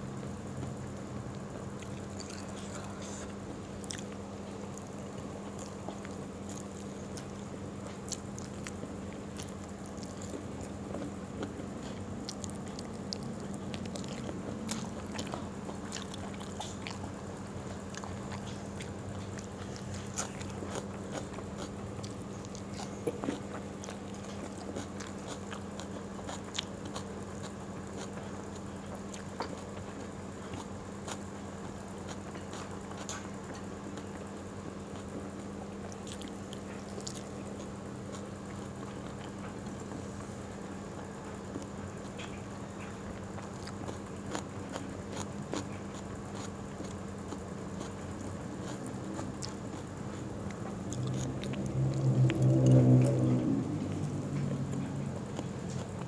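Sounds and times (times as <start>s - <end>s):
steady low hum: 0.0s - 56.0s
person chewing and crunching: 0.6s - 34.2s, 34.8s - 40.3s, 41.0s - 56.0s.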